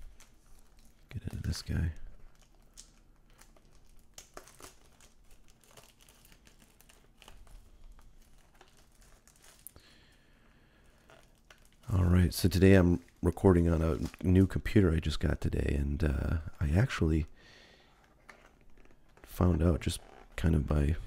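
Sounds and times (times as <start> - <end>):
plastic wrap crinkling and tearing: 0.0 - 17.0, 18.0 - 21.0.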